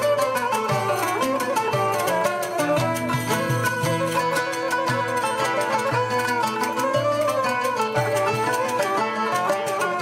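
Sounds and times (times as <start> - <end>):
bowed fiddle melody: 0.0 - 10.0
plucked strings: 0.0 - 10.0.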